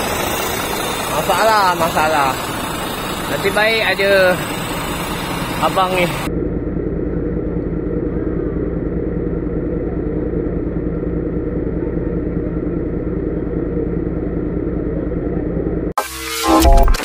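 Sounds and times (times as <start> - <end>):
diesel truck engine running: 0.0 - 15.9.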